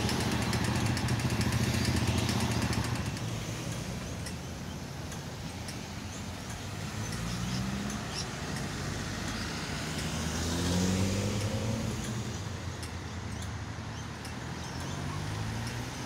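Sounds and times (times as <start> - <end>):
cars passing close by: 0.0 - 16.0.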